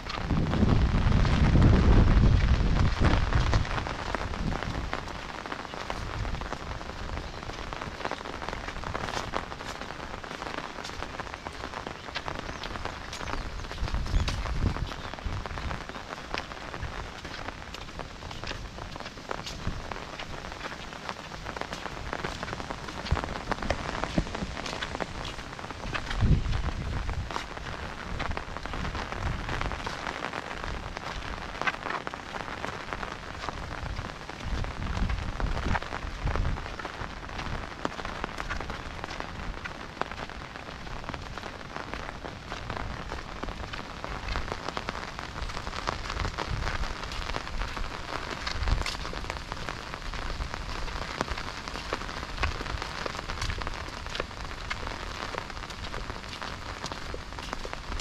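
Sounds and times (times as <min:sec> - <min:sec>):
rain drop ticks: 0:00.0 - 0:58.0
steady rain hiss: 0:00.0 - 0:58.0.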